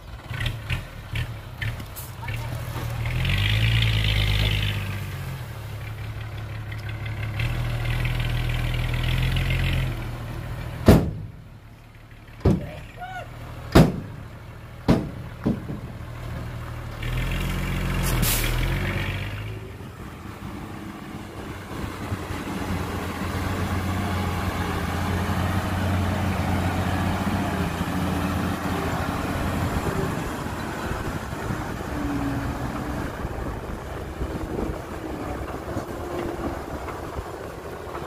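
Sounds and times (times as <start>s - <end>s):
diesel truck engine passing: 0.0s - 38.0s.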